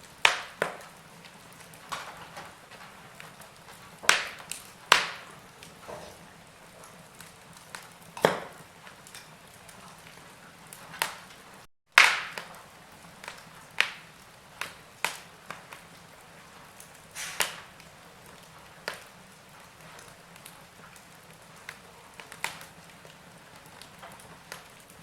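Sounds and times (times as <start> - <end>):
wood fire popping and snapping: 0.0 - 25.0.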